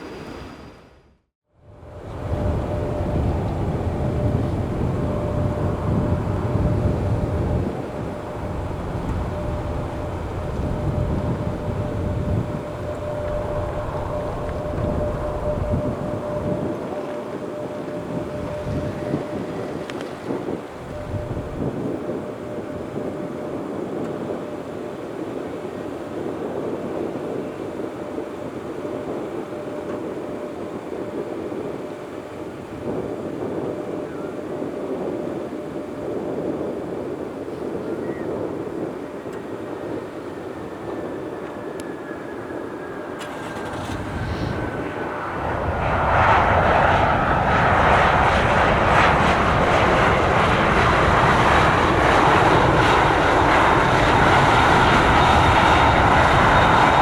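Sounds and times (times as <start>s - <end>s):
jet engines landing: 0.0s - 57.0s.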